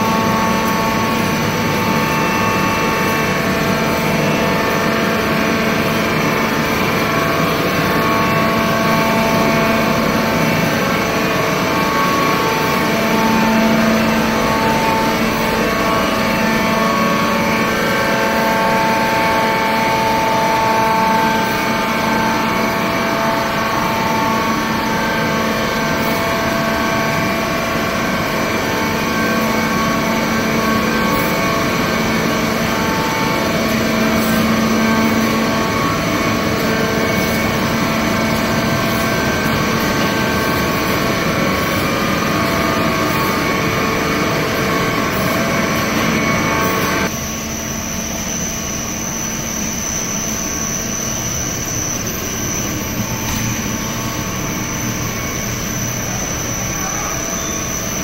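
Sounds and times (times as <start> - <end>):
factory machinery hum: 0.0 - 58.0
machine whining tones: 0.0 - 58.0.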